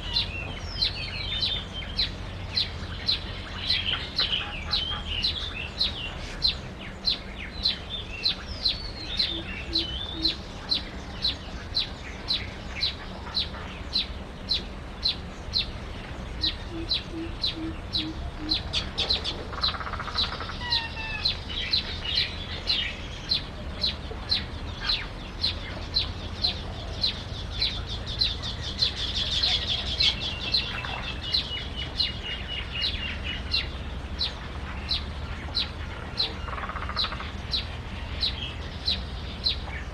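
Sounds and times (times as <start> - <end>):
trilling bird call: 0.0 - 15.7, 16.3 - 39.9
other bird calls: 0.0 - 39.9
small bird chirping: 0.0 - 39.9.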